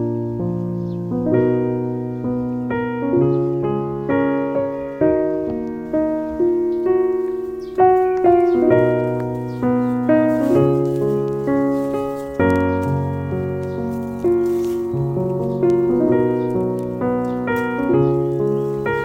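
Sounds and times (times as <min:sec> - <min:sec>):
gentle piano chords: 0:00.0 - 0:19.0.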